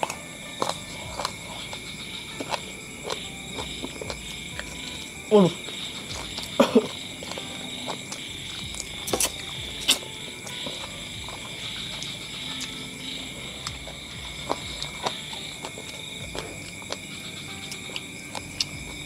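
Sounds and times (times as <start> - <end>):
crickets chirring: 0.0 - 19.0
eating clicks and wet smacks: 0.0 - 19.0.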